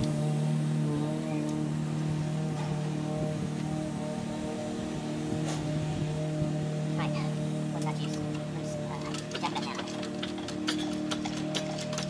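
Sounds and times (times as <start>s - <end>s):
background music sustained notes: 0.0s - 12.0s.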